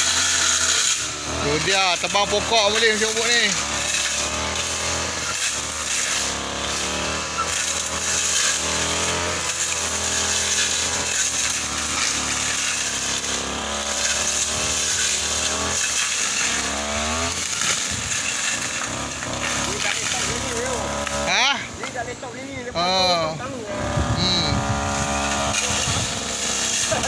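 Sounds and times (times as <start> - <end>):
brush cutter cutting into tree: 0.0 - 27.0.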